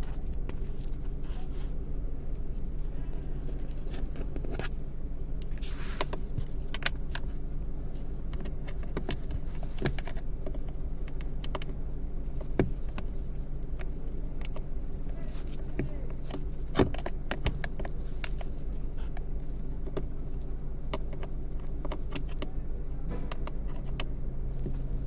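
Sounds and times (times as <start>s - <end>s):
car engine humming: 0.0s - 25.0s
sharp clicks and rattles: 2.0s - 22.5s.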